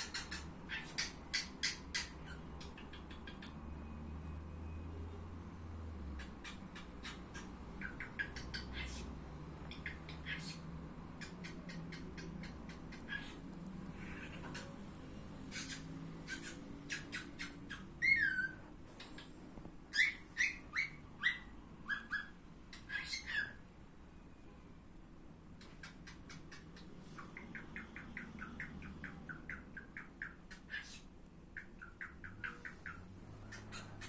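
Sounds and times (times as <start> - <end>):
bird chirping: 0.0 - 24.6, 25.5 - 34.0.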